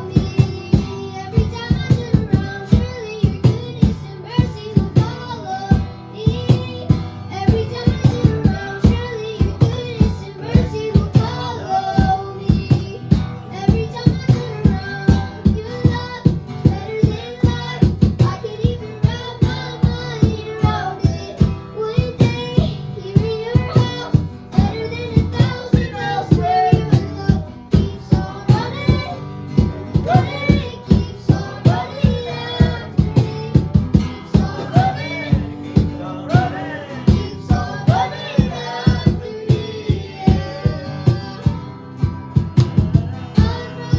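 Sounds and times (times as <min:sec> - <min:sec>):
high voice singing: 0:00.0 - 0:42.1, 0:42.7 - 0:43.9
steady drum beat: 0:00.0 - 0:43.9
worship band playing: 0:00.0 - 0:43.9.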